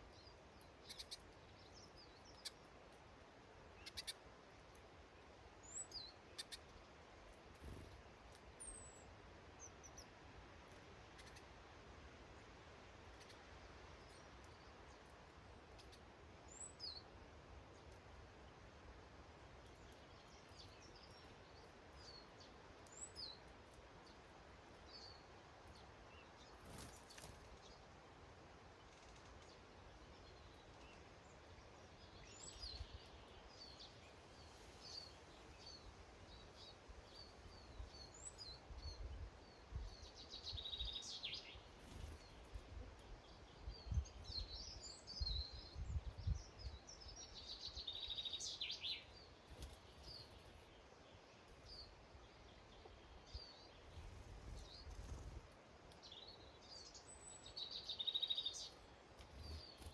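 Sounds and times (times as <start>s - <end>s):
small birds chirping: 0.0s - 11.6s, 12.3s - 18.6s, 19.4s - 27.9s, 28.8s - 59.9s.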